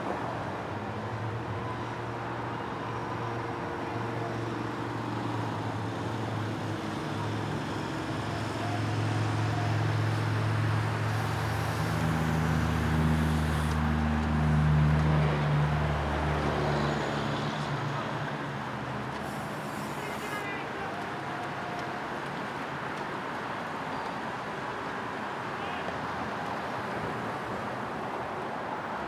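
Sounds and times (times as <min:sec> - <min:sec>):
city traffic noise: 0:00.0 - 0:29.0.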